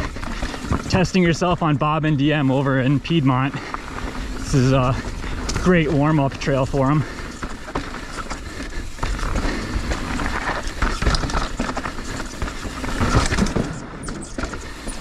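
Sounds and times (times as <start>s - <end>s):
bike knocks and rattles: 0.0s - 1.1s, 3.6s - 15.0s.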